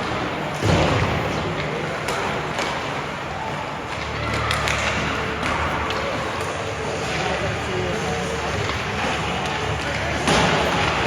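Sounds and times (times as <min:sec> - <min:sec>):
hockey sticks and puck clacking: 0:00.0 - 0:03.0, 0:03.9 - 0:07.5, 0:08.2 - 0:11.0
echoing arena hubbub: 0:00.0 - 0:11.0.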